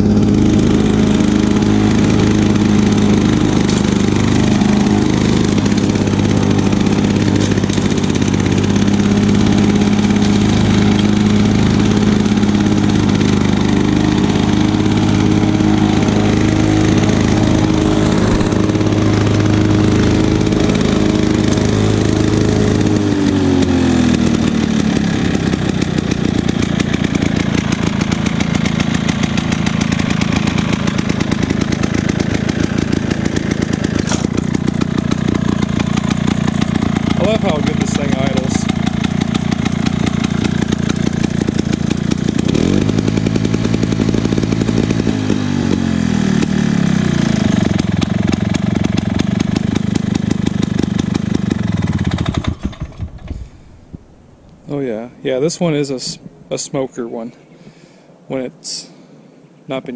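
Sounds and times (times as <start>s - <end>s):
lawn mower engine running: 0.0s - 56.5s.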